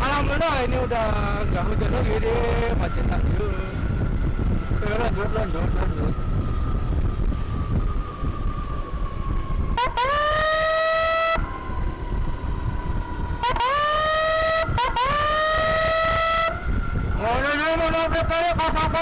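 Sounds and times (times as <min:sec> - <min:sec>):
electronic emergency siren blasts: 0:00.0 - 0:19.0
road and engine rumble: 0:00.0 - 0:19.0
faint steady siren tone: 0:00.2 - 0:19.0.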